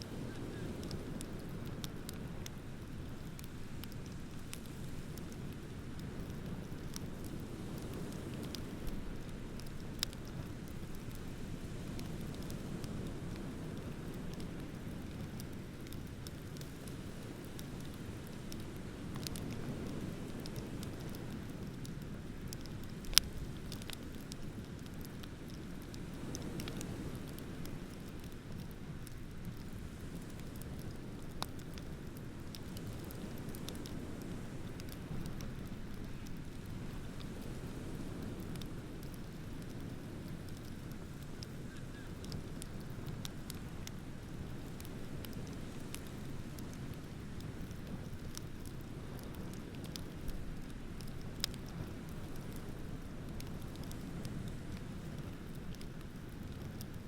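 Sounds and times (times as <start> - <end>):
bonfire crackling and popping: 0.0 - 57.0
low fire rumble: 0.0 - 57.0.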